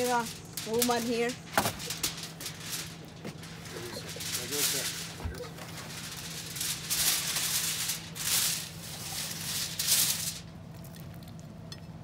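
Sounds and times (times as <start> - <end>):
aluminium foil crinkling: 0.0 - 11.7.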